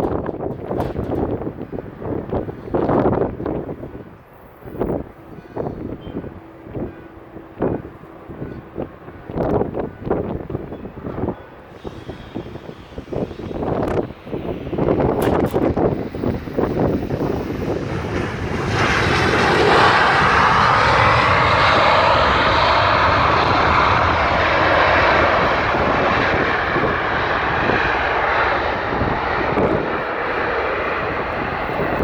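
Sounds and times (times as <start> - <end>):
jet engine roar: 0.0 - 32.0.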